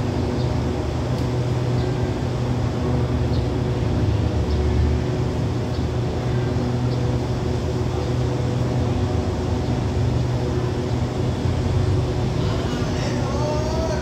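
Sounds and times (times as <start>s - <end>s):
diesel train engine idling: 0.0s - 14.0s.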